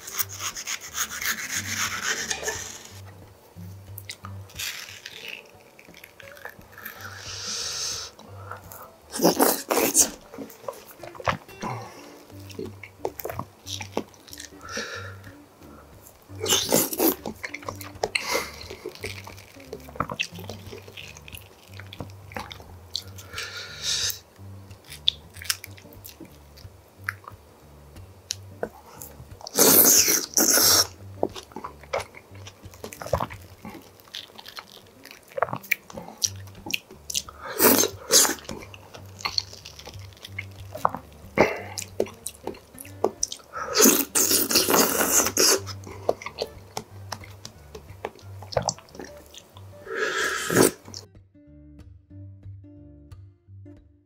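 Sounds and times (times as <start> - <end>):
wet chewing and smacking: 0.0 - 51.1.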